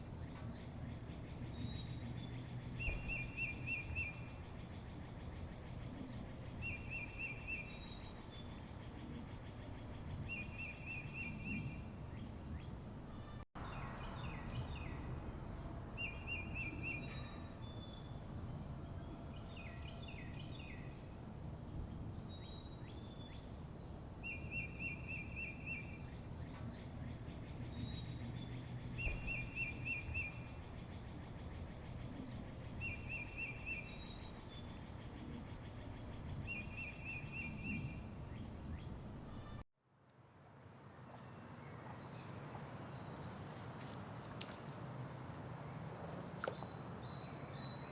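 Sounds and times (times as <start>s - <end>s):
low outdoor rumble: 0.0s - 39.6s
wild birds singing: 0.0s - 39.6s, 44.2s - 45.0s, 45.6s - 47.9s.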